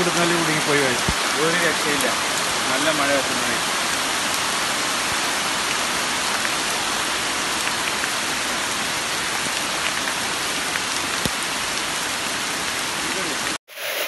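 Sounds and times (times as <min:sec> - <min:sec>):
raindrops ticking close by: 0:00.0 - 0:13.6
heavy rain: 0:00.0 - 0:14.0.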